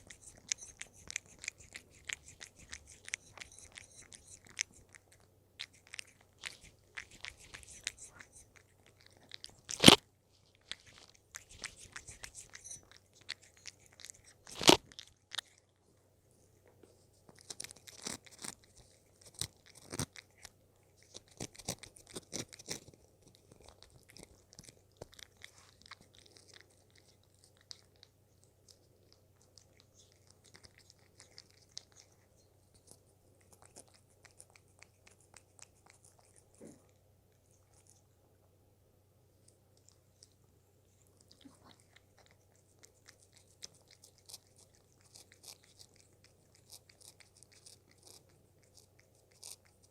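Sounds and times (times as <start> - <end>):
cat chewing treats: 0.0 - 15.8, 17.0 - 38.1, 39.5 - 49.9.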